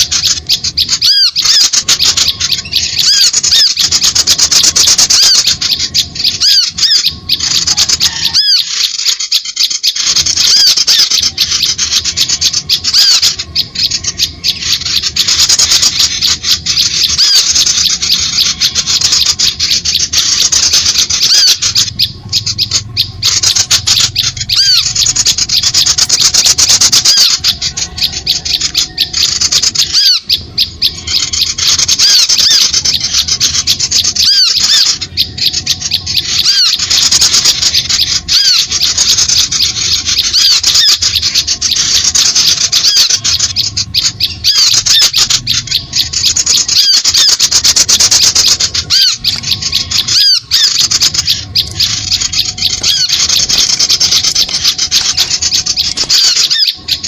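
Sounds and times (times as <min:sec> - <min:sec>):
small songbirds chattering: 0:00.0 - 0:57.0.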